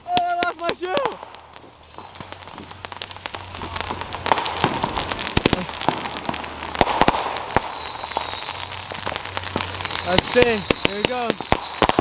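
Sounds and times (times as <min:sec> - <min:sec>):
firework crackle: 0:00.0 - 0:12.0
firework pops and cracks: 0:00.0 - 0:12.0.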